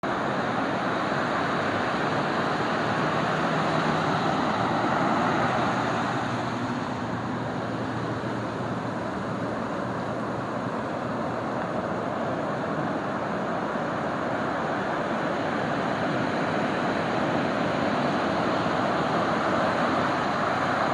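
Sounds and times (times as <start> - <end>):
ocean surf washing onto beach: 0.0 - 20.9.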